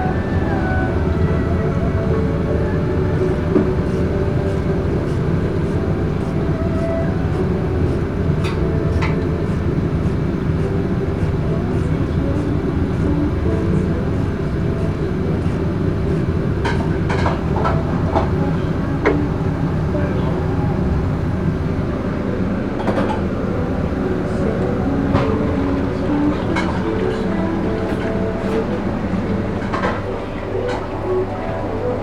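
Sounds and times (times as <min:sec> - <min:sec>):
kitchen machinery rumble: 0:00.0 - 0:32.0.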